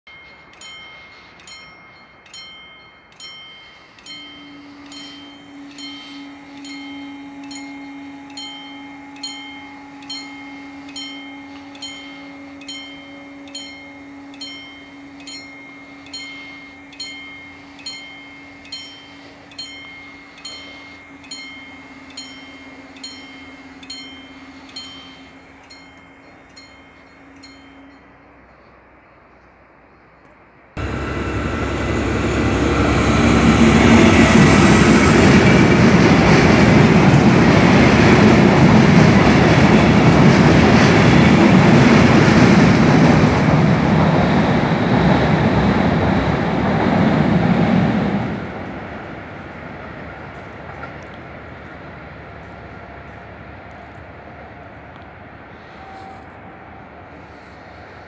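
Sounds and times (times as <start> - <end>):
level crossing warning bell: 0.0 - 29.0, 30.8 - 54.8
steady low hum: 0.1 - 58.0.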